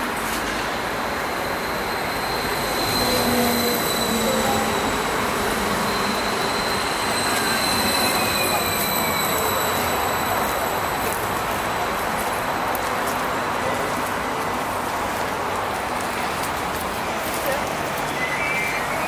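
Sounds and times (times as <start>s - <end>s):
train high whine: 0.0s - 19.0s
train rolling rumble: 0.0s - 19.0s.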